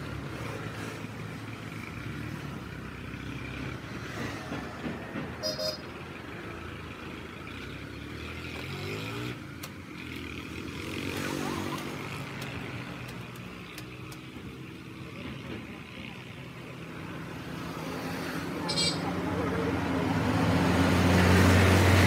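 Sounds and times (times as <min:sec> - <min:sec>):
road traffic passing: 0:00.0 - 0:22.0
vehicle engines rising in pitch: 0:00.0 - 0:22.0.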